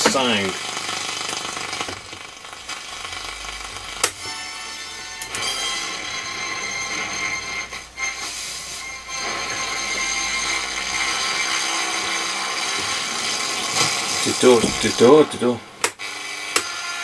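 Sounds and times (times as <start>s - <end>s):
distorted radio static hiss: 0.0s - 15.9s.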